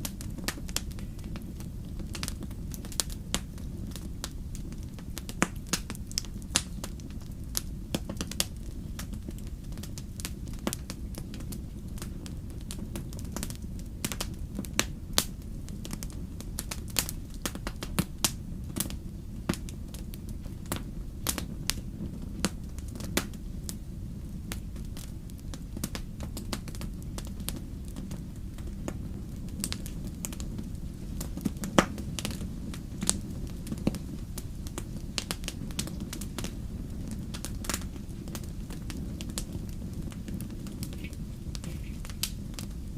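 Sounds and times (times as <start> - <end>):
campfire crackling and popping: 0.0 - 42.9
steady low rumble: 0.0 - 42.9.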